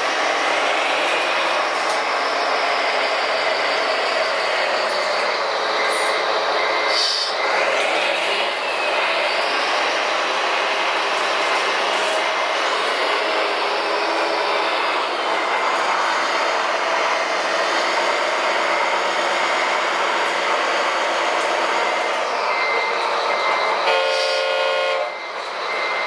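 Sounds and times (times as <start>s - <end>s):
electric motor whine and gear noise: 0.0s - 26.0s.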